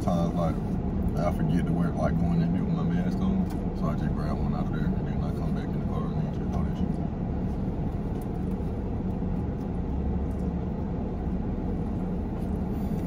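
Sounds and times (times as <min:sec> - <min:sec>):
car idling rumble: 0:00.0 - 0:13.0.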